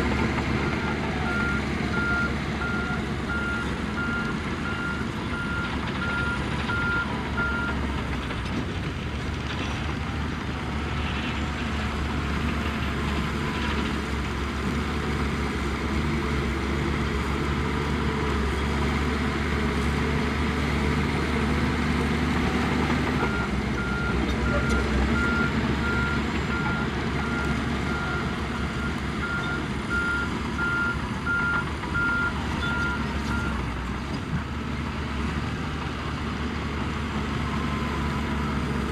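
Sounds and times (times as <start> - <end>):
heavy diesel engines under load: 0.0 - 38.9.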